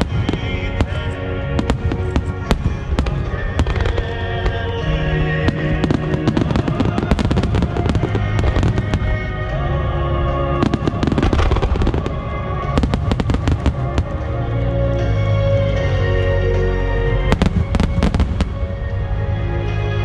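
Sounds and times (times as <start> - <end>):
fireworks bursting and crackling: 0.0 - 15.4, 17.2 - 19.3
steady music: 0.0 - 20.0.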